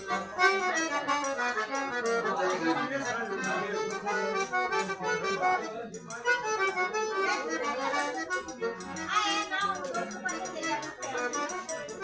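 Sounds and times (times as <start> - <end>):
accordion-led traditional music: 0.0 - 12.0
steady percussive beat: 0.0 - 12.0.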